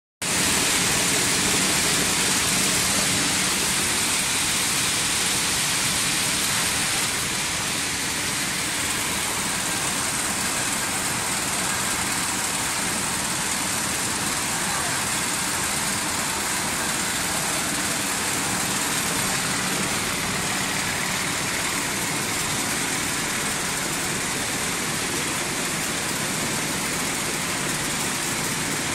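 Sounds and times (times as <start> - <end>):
machine whirring with hiss: 0.2 - 28.9.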